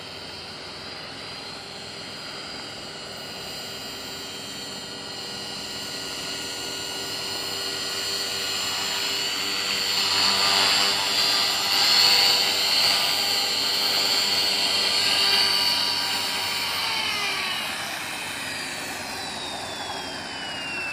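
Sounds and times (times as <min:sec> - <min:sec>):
rc helicopter rotor whine: 0:00.0 - 0:20.9.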